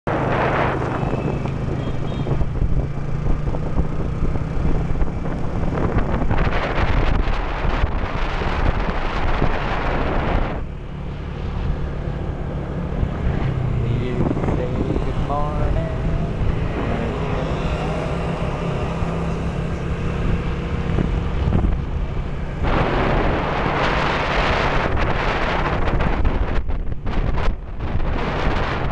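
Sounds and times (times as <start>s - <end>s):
vehicle engine hum: 0.1s - 28.9s
wind buffeting microphone: 0.1s - 28.9s.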